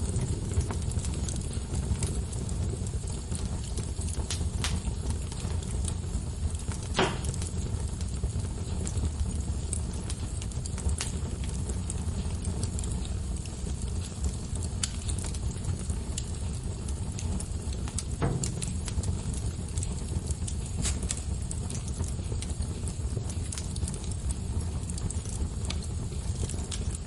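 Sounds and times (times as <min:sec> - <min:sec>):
burning logs crackling and popping: 0:00.0 - 0:27.0
fire flames rumbling: 0:00.0 - 0:27.0.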